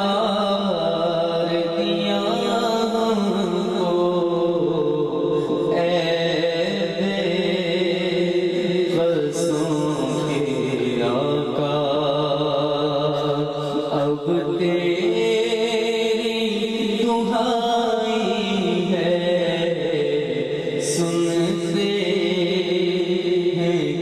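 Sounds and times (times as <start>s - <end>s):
man chanting into a microphone: 0.0s - 24.0s.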